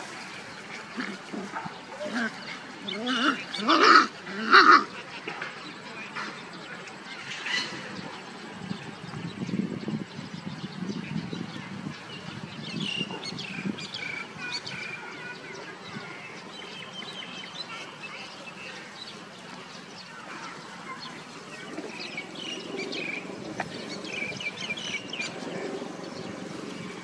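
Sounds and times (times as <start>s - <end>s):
small birds chirping: 4.9s - 27.0s.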